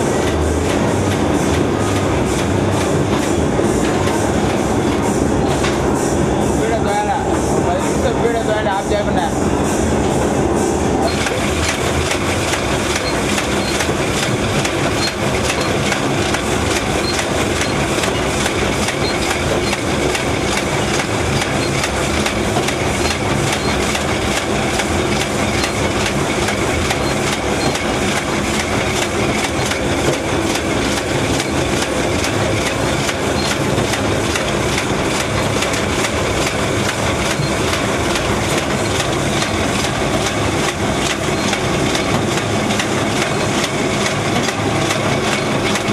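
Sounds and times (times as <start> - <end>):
wrapping machine mechanical clatter: 0.0 - 7.2, 11.0 - 45.9.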